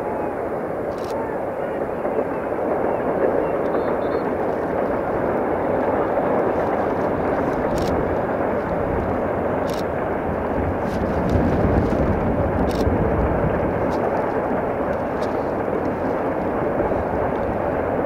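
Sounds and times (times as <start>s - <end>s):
distant freight train rumbling: 0.0s - 18.0s.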